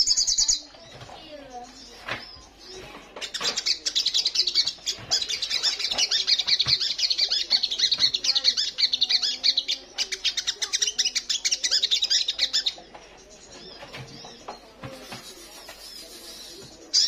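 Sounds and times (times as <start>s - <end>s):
bird twittering song: 0.0s - 17.0s.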